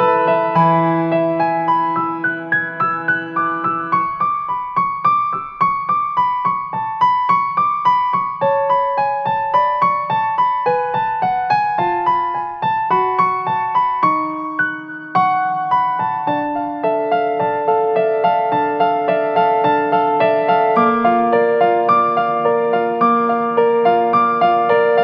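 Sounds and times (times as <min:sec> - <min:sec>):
piano playing: 0:00.0 - 0:25.0.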